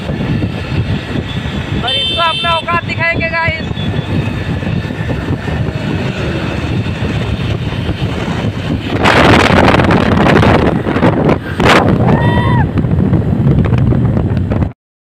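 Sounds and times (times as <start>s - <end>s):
motorcycle engine and road rumble: 0.0s - 14.7s
wind on microphone: 0.0s - 14.7s.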